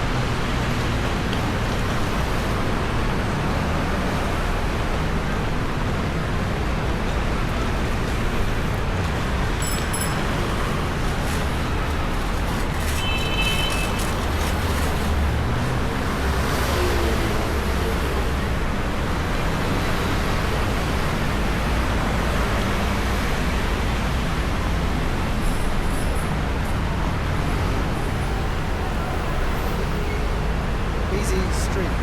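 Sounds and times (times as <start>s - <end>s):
road traffic hum: 0.0s - 32.0s.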